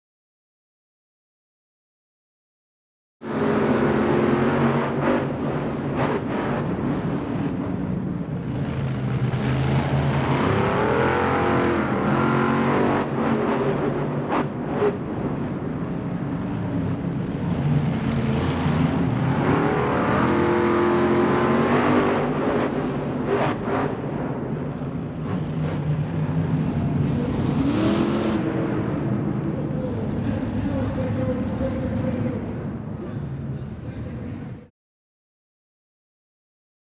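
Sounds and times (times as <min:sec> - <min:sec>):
monster truck engines revving: 0:03.2 - 0:34.6.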